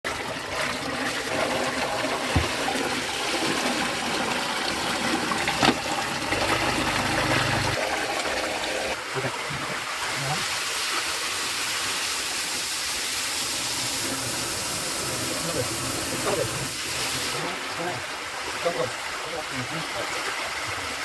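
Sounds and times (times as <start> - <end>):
water rushing through plumbing: 0.0 - 21.0.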